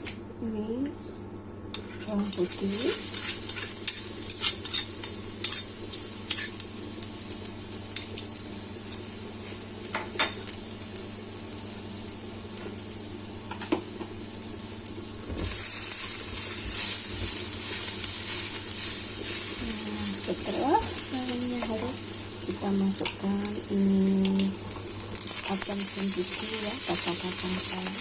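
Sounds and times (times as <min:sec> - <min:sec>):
garlic sizzling in hot oil: 0:02.2 - 0:28.0.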